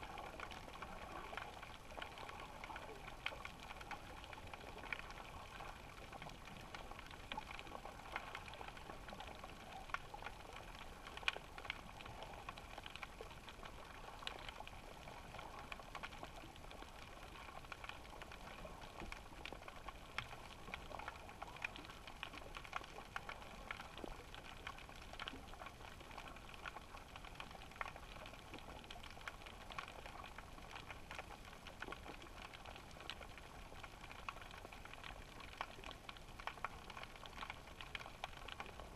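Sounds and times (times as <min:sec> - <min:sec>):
small clicks and crackles: 0:00.0 - 0:38.9.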